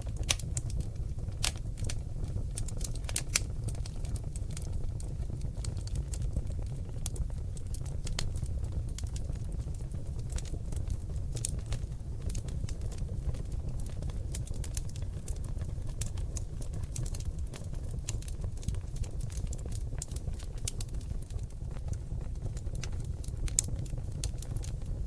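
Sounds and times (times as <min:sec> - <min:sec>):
logs crackling and popping: 0:00.0 - 0:25.0
low rumble of flame: 0:00.0 - 0:25.0.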